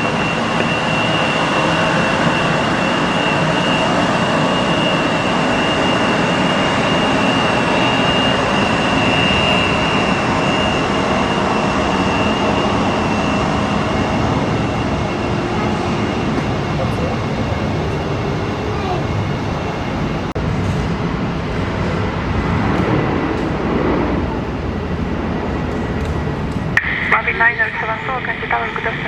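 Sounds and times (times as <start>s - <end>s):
jet engines roaring with whine: 0.0s - 29.0s.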